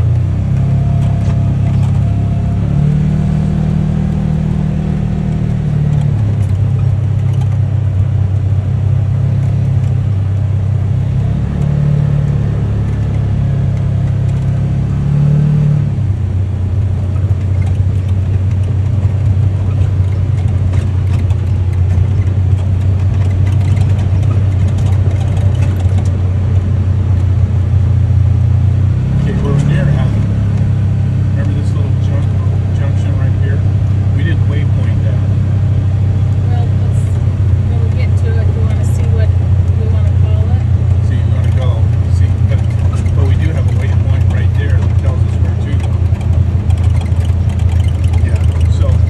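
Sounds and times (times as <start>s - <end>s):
vehicle engine droning: 0.0s - 49.0s.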